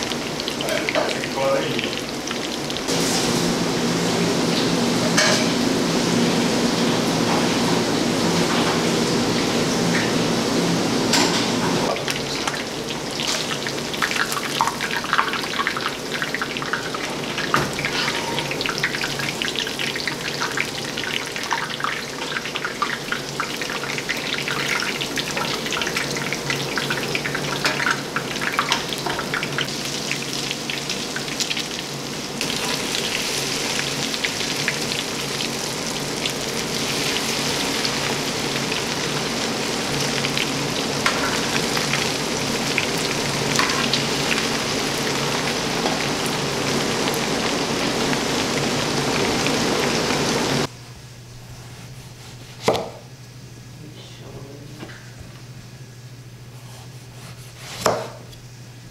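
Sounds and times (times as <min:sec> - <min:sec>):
deep-frying sizzle and pops: 0:00.0 - 0:10.2, 0:11.0 - 0:50.7.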